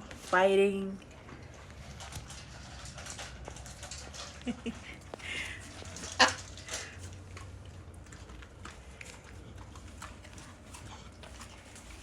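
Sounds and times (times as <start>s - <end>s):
low steady hum: 0.0s - 12.0s
puppies scuffling: 1.2s - 12.0s.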